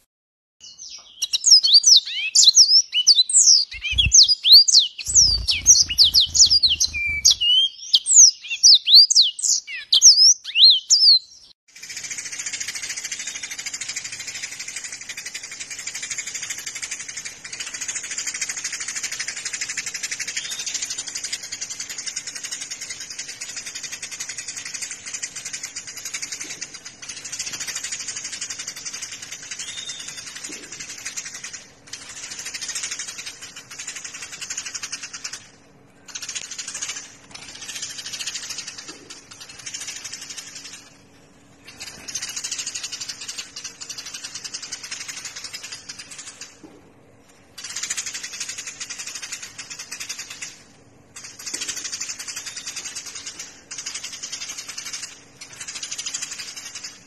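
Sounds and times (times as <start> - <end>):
songbird buzzing rattle: 3.6 - 7.6, 11.7 - 46.6, 47.6 - 57.0.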